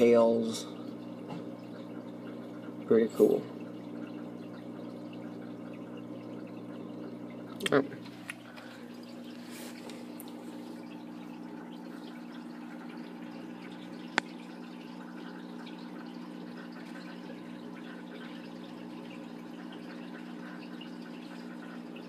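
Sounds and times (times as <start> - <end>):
aquarium filter hum: 0.0 - 22.0
faint water trickle: 0.0 - 22.0.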